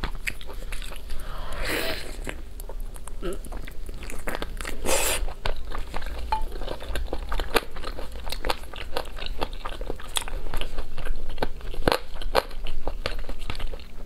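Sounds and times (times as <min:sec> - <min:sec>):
crunching and chewing: 0:00.0 - 0:14.0.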